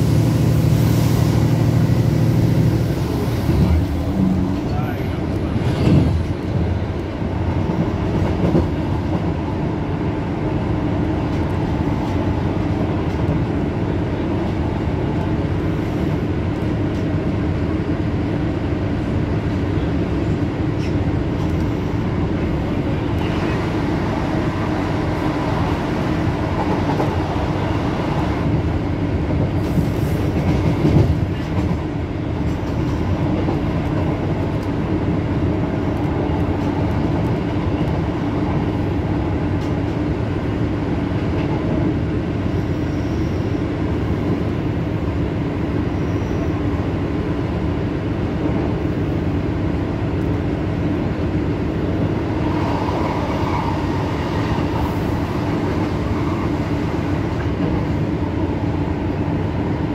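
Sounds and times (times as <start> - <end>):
train wheels rumbling on rails: 0.0 - 59.9
clickety-clack over rail joints: 2.4 - 17.5, 19.4 - 42.1, 49.7 - 59.9.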